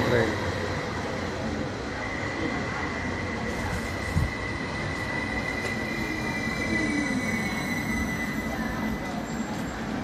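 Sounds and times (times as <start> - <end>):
train running gear rumble: 0.0 - 10.0
train whine gliding downward: 0.0 - 10.0
train high squeal: 2.0 - 10.0.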